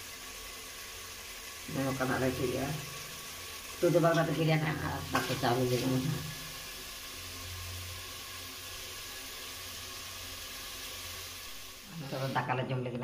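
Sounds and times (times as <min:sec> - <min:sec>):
food sizzling in metal pot: 0:00.0 - 0:13.0.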